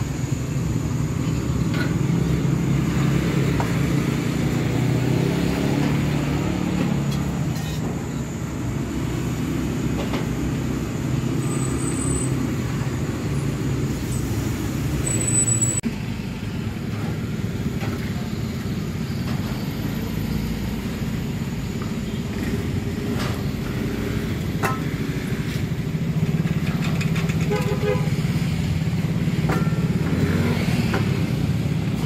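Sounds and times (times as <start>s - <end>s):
low rumble of road traffic: 0.0s - 32.0s.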